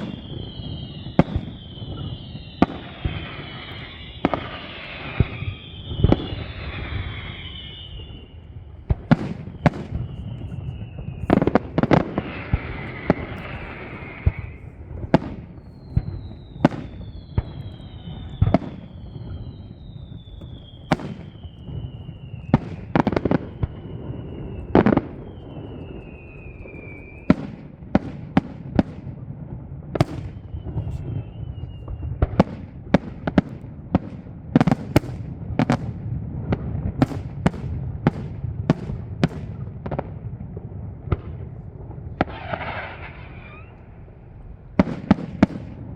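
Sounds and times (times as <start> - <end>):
falling firework whistles: 0.0 - 29.0, 29.9 - 35.9, 42.1 - 45.9.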